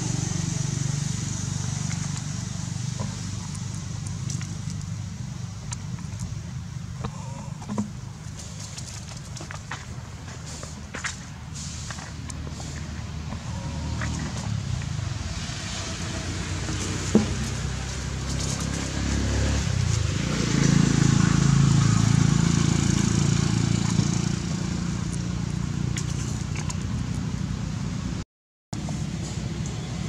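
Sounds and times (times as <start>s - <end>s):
low vehicle engine hum: 0.0s - 28.2s
steady outdoor hiss: 0.0s - 28.2s, 28.8s - 30.0s.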